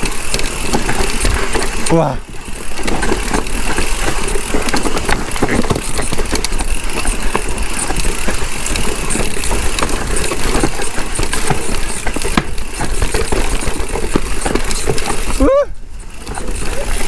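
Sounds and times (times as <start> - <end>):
mountain bike rattling on rocky trail: 0.0 - 17.0.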